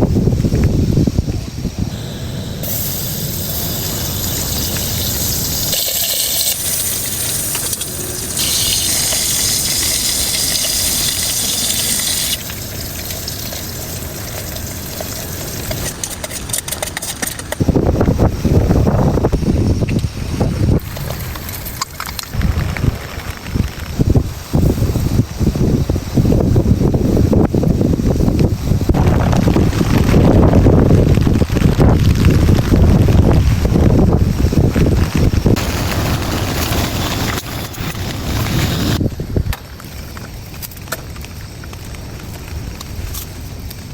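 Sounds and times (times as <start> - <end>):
heavy rain pouring: 0.0 - 43.9
wind rumbling on microphone: 0.0 - 43.9.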